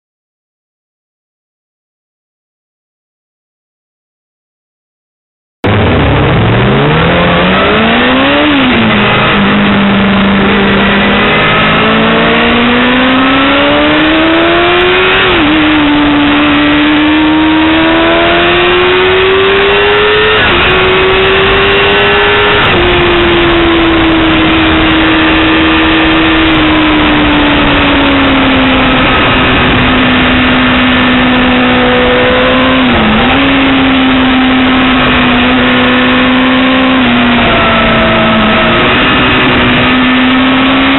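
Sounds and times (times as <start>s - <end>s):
motorcycle engine revving: 5.6s - 40.9s
wind noise: 5.6s - 40.9s.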